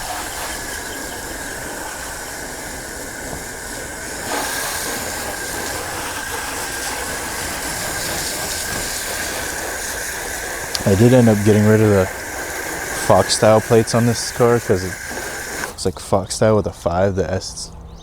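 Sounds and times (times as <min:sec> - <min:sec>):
water jet spraying: 0:00.0 - 0:16.2.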